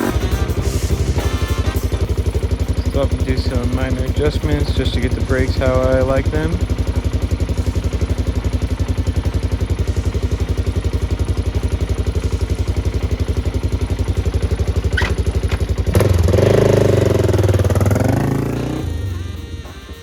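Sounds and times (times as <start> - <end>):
music with drums and guitar: 0.0 - 6.8, 9.3 - 20.0
motorcycle engine idling: 0.0 - 20.0.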